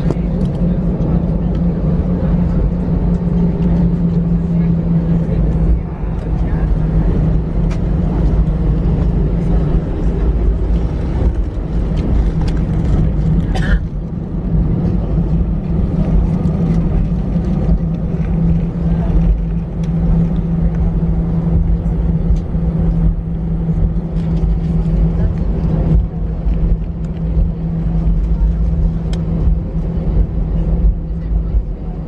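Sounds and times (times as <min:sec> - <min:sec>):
airplane engines humming: 0:00.0 - 0:32.0.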